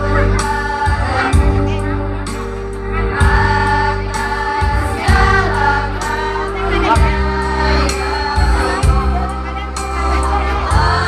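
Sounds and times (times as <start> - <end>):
choir singing: 0.0 - 1.8, 3.0 - 11.0
low instrumental accompaniment: 0.0 - 11.0.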